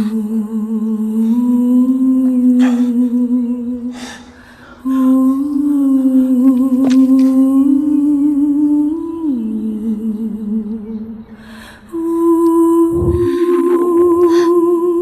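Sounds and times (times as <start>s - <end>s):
person humming melody: 0.0s - 11.3s, 11.9s - 15.0s.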